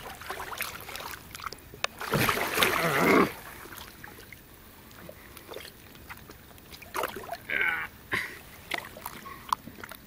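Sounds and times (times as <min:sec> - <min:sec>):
soft water movement: 0:00.0 - 0:10.0
water splashing and sloshing: 0:00.0 - 0:10.0.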